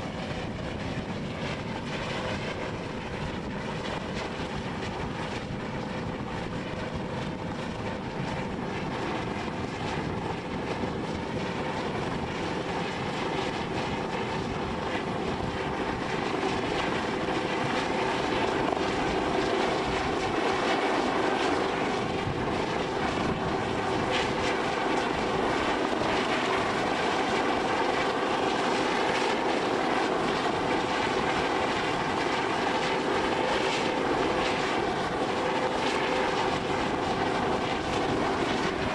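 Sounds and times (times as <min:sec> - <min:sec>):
aircraft engine whining: 0:00.0 - 0:38.9.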